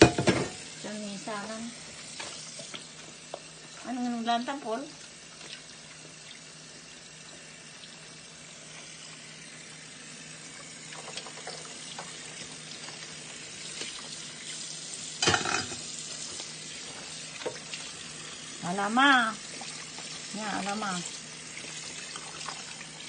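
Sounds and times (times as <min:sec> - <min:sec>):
tap water running into a sink: 0:00.0 - 0:23.0.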